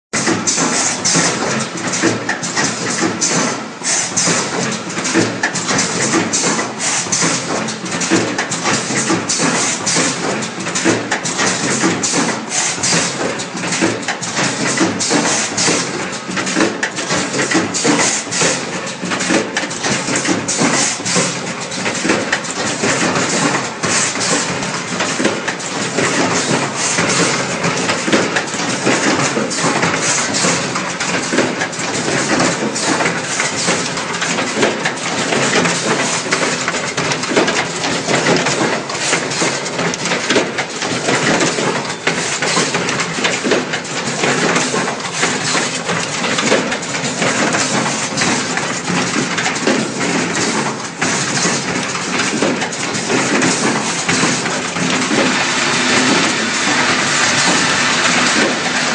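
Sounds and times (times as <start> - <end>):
crimping machine clattering: 0.2 - 58.9.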